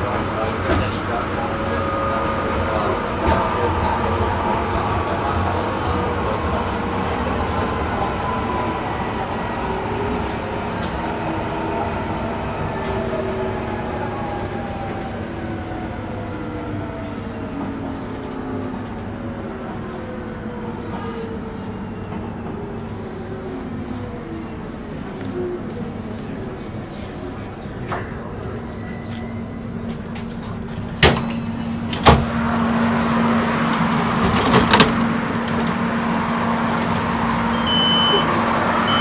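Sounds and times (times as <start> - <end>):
wheels rumbling on rails: 0.0 - 39.0.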